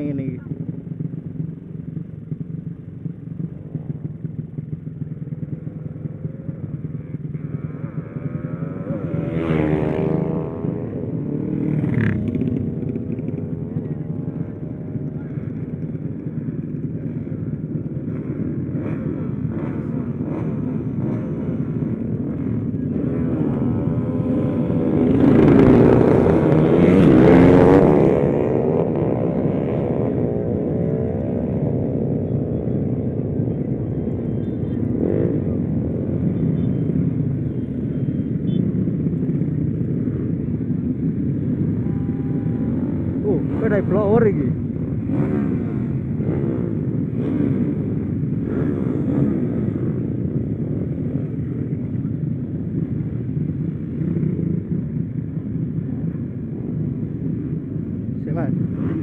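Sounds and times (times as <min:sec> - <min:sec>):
engines passing: 0:00.0 - 0:59.0
motorcycle engine running: 0:00.0 - 0:59.0.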